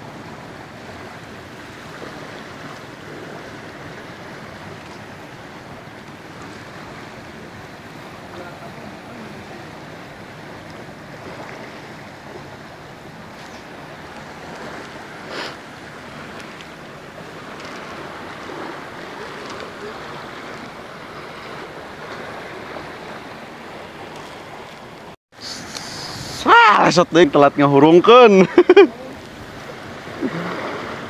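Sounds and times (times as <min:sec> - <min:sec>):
fast-flowing river rushing: 0:00.0 - 0:31.0.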